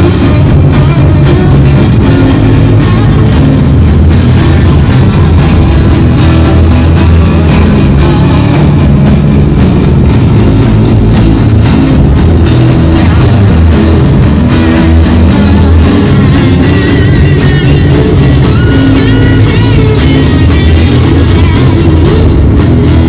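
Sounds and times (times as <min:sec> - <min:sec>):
drums keeping a beat: 0:00.0 - 0:23.0
electric guitar: 0:00.0 - 0:23.0.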